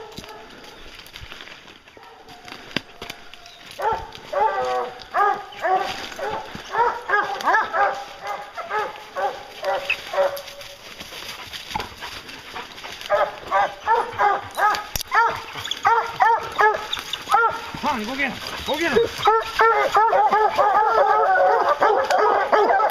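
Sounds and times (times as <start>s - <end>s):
hounds baying: 1.9s - 22.9s.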